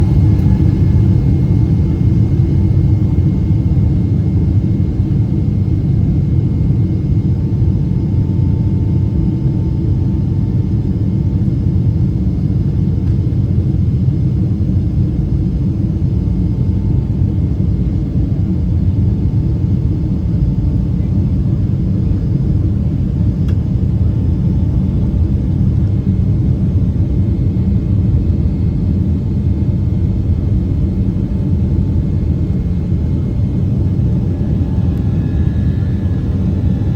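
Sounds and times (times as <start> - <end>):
airliner engine rumble: 0.0 - 36.9
faint steady whines: 0.0 - 36.9.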